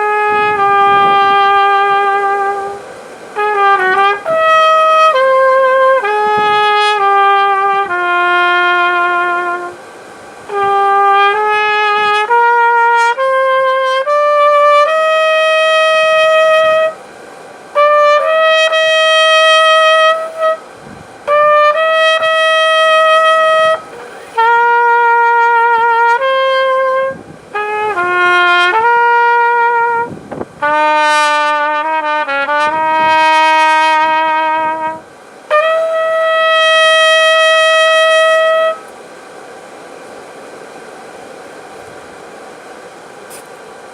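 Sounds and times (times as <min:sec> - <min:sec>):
solo wind instrument melody: 0:00.0 - 0:39.7.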